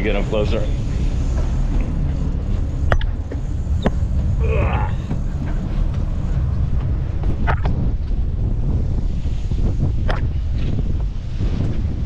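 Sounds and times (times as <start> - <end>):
boat running at sea: 0.0 - 12.0
wind on microphone: 0.0 - 12.0.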